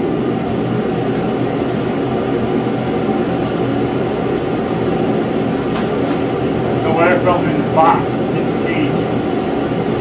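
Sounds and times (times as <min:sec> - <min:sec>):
heater roaring: 0:00.0 - 0:10.0.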